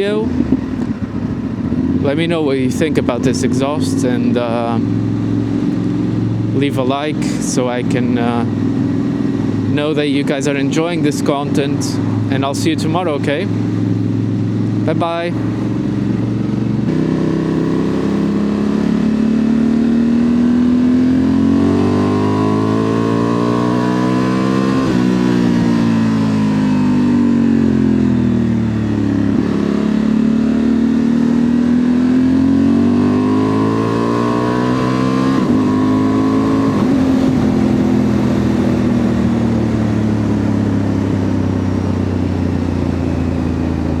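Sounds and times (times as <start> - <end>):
motorcycle engine revving: 0.0 - 44.0
wind and road noise: 0.0 - 44.0.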